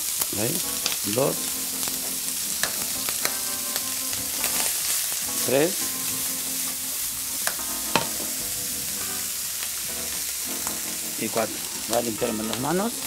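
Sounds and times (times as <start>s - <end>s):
bacon sizzling in a pan: 0.0s - 13.0s.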